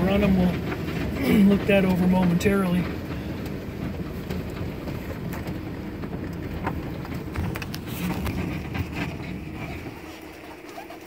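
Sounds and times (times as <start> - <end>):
light clicks and knocks: 0.0 - 10.4
car engine running: 0.0 - 11.0.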